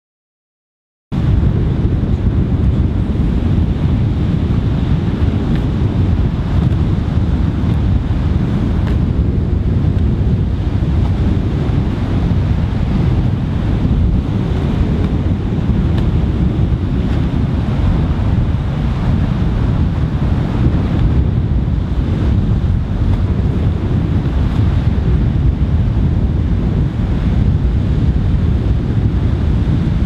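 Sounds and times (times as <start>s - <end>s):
wind rumbling on microphone: 1.1s - 30.0s
surf washing on shore: 1.2s - 30.0s.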